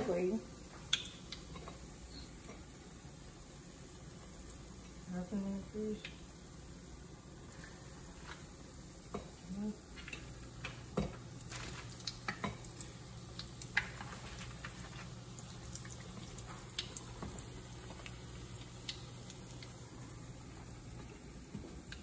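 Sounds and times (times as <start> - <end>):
food frying in hot oil: 0.0 - 22.0
low steady hum: 0.0 - 22.0.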